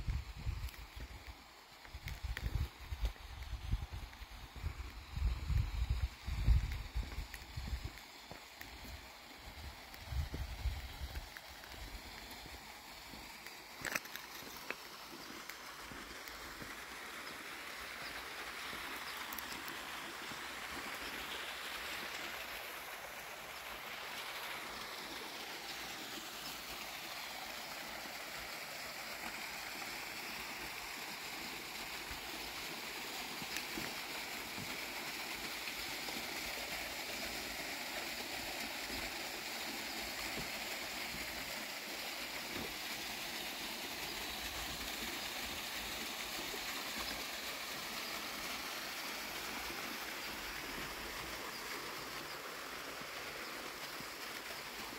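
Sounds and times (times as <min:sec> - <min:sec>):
small waterfall splashing: 0:00.0 - 0:54.9.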